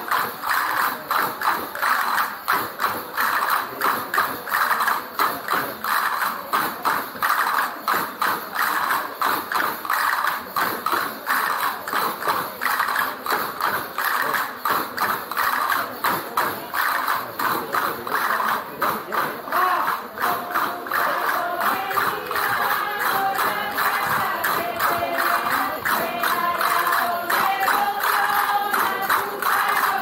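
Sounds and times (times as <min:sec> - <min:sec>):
driving percussion beat: 0:00.0 - 0:30.0.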